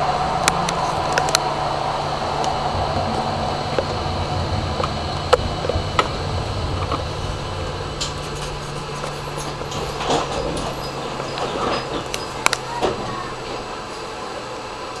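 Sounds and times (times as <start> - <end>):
tram drive humming: 0.0 - 15.0
light rattles: 0.4 - 14.1.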